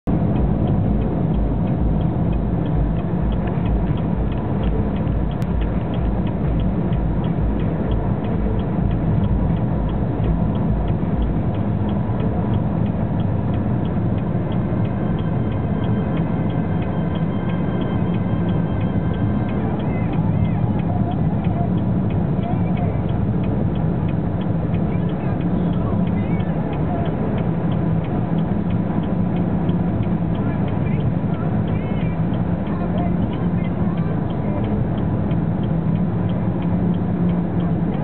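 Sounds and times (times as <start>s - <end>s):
low throbbing: 0.0s - 38.0s
road and wind noise in car: 0.0s - 38.0s
fast even ticking: 0.1s - 38.0s.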